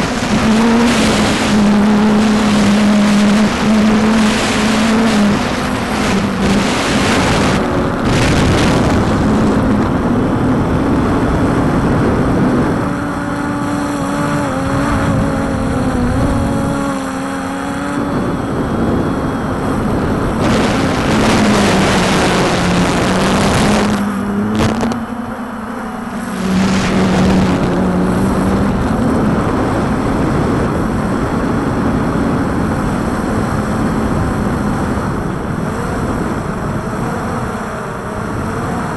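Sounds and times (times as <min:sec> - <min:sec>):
drone motors humming: 0:00.0 - 0:38.9
wind gusts on microphone: 0:00.0 - 0:38.9.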